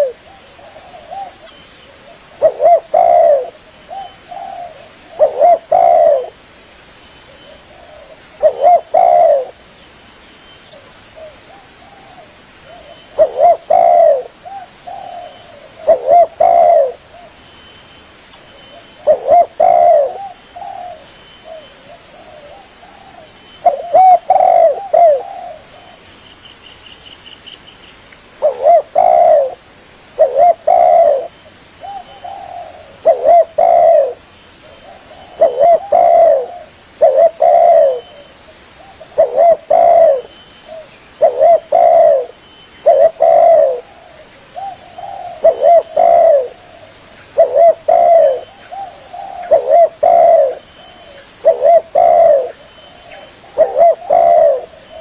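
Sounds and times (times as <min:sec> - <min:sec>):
dove cooing: 0:00.0 - 0:06.4, 0:07.3 - 0:09.7, 0:10.8 - 0:17.4, 0:18.6 - 0:26.0, 0:28.4 - 0:29.6, 0:30.2 - 0:55.0.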